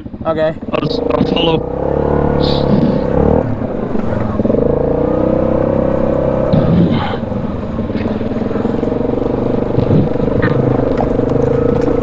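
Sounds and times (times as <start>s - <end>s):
atv engine under throttle: 0.0s - 12.0s.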